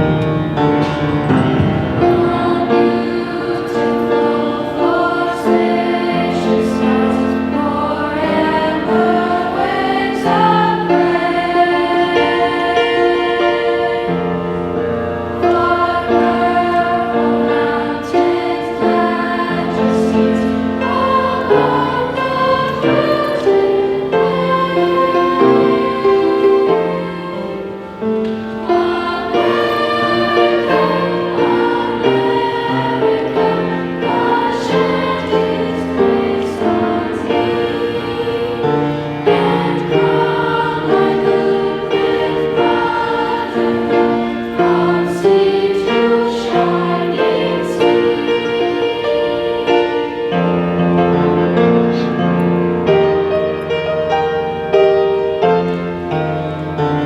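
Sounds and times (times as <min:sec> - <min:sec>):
choir singing held chords: 0:00.0 - 0:57.0
musical accompaniment: 0:00.0 - 0:57.0.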